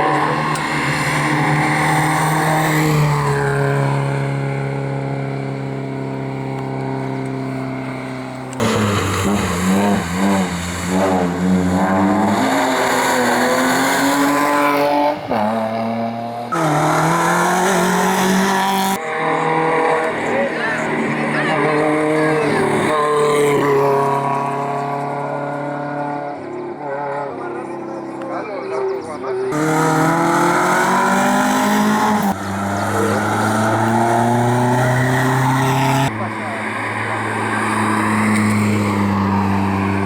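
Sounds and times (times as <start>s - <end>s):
race car engines at full throttle: 0.0s - 40.0s.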